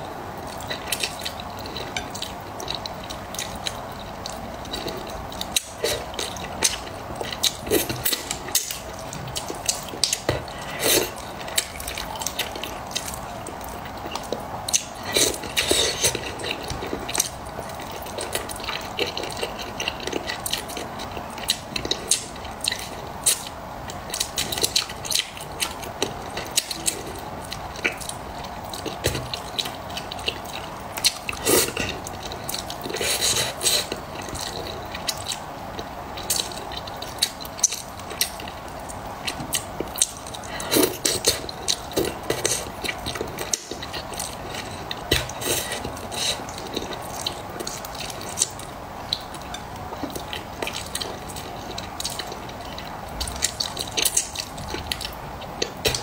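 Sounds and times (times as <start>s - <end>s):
person chewing with wet mouth clicks: 0.5s - 56.0s.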